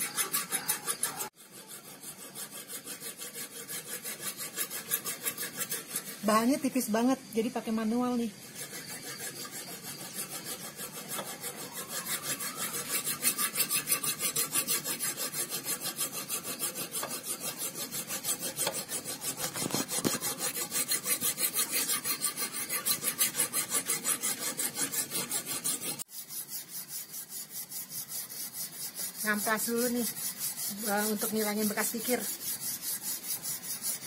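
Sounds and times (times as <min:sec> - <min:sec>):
hand file rasping on steel blade: 0:00.0 - 0:34.0.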